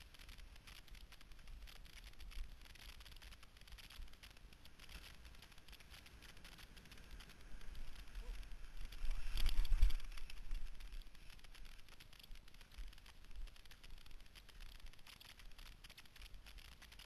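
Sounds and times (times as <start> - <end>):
skis sliding over snow: 0.0 - 17.0.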